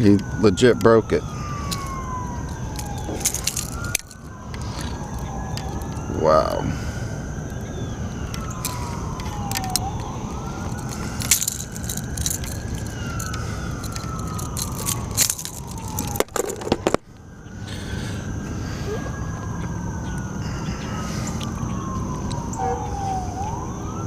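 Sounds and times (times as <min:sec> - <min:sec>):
siren wailing: 0:00.0 - 0:24.0.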